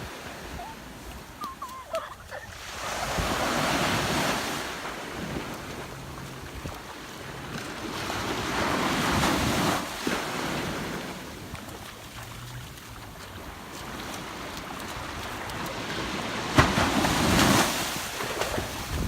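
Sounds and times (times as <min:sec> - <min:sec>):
wind buffeting microphone: 0:00.0 - 0:11.8, 0:12.8 - 0:19.0
ocean surf washing onto beach: 0:00.0 - 0:19.0.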